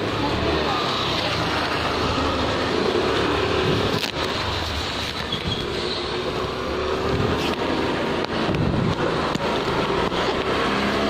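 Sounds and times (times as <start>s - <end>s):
motor vehicle engine humming: 0.0s - 11.0s
traffic: 0.0s - 11.0s.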